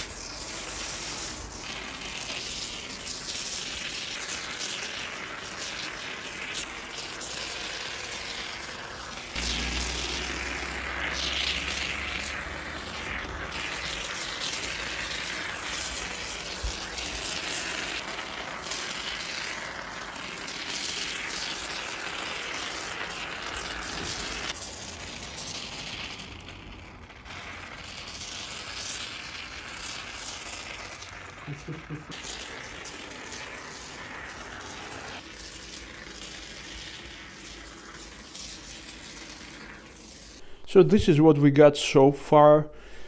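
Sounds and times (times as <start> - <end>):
aerosol can hissing and sputtering: 0.0 - 40.8.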